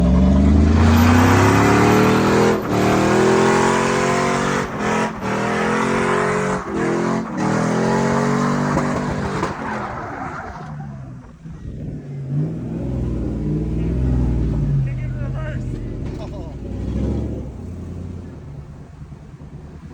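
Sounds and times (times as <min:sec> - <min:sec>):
tire noise rushing: 0:00.0 - 0:19.9
truck engine revving hard: 0:00.0 - 0:19.9.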